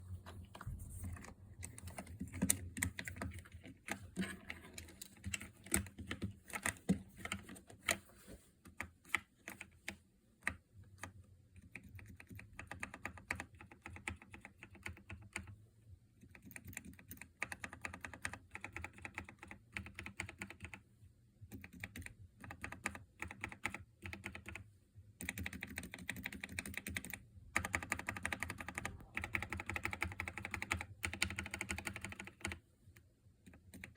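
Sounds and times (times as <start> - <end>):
mechanical keyboard typing: 1.0 - 8.0, 8.7 - 15.5, 16.2 - 20.8, 21.5 - 32.6, 33.4 - 33.9.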